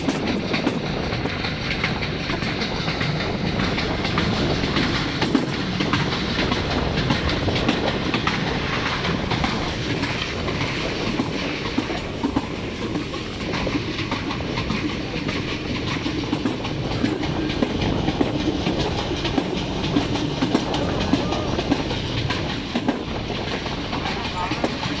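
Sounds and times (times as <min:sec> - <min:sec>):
passenger train rumbling: 0:00.0 - 0:25.0
wheels clattering on track: 0:00.0 - 0:25.0.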